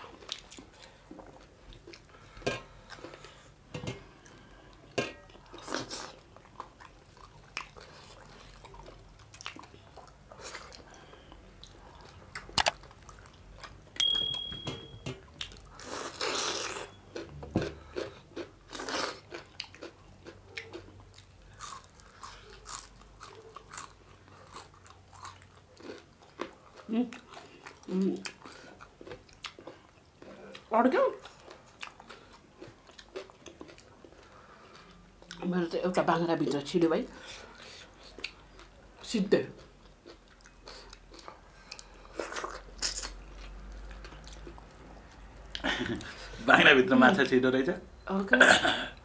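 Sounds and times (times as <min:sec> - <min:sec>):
chewing and crunching food: 0:00.0 - 0:14.0, 0:15.3 - 0:35.8, 0:36.4 - 0:46.4.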